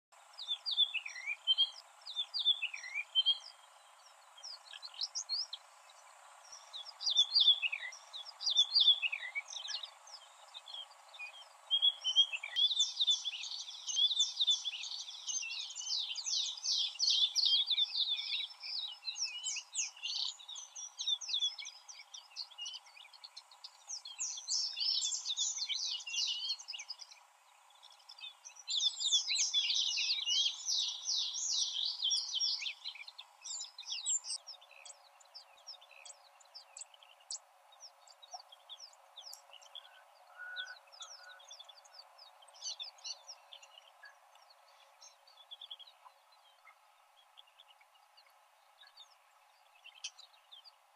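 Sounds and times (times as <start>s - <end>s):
small birds chirping and singing: 0.1s - 50.9s.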